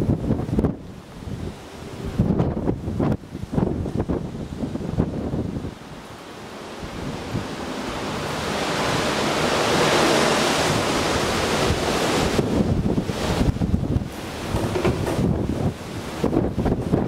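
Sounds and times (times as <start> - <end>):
strong wind gusting: 0.0 - 17.0
wind rumbling on microphone: 0.0 - 17.0.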